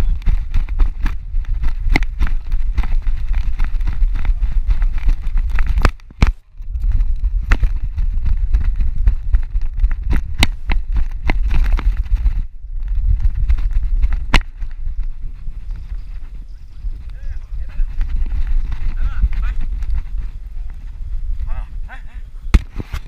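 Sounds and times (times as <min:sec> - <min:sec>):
low rumble and buffeting: 0:00.0 - 0:22.8.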